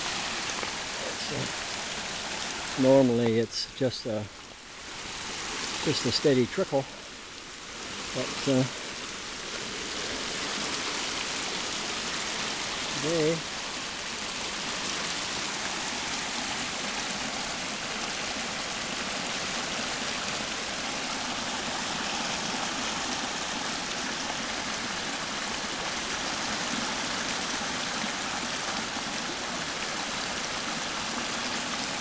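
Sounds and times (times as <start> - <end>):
brook rushing water: 0.0 - 32.0.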